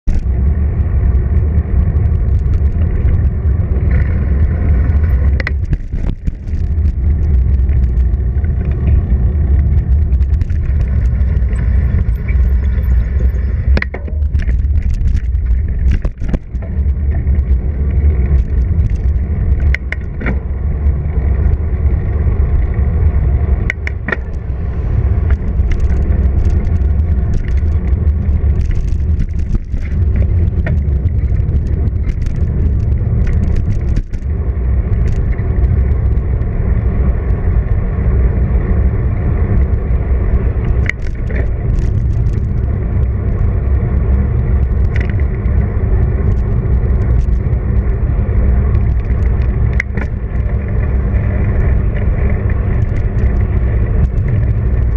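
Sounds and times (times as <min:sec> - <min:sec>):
clicks and rattles from bumps: 0:00.0 - 0:21.6, 0:23.5 - 0:24.5, 0:25.2 - 0:36.4, 0:40.6 - 0:54.9
wind and ride rumble: 0:00.0 - 0:54.9.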